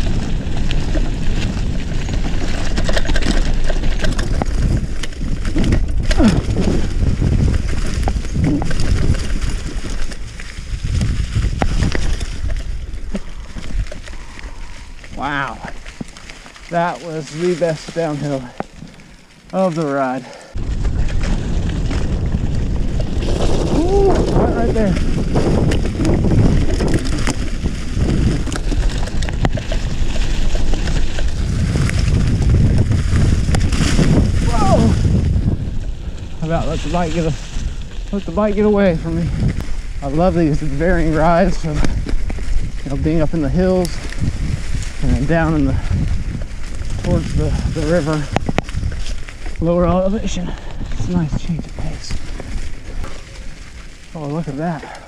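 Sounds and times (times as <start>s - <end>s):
wind on microphone: 0.0s - 19.0s, 20.3s - 55.0s
bike clicks and rattles: 0.0s - 55.0s
bike tyres rumbling on dirt: 0.0s - 55.0s.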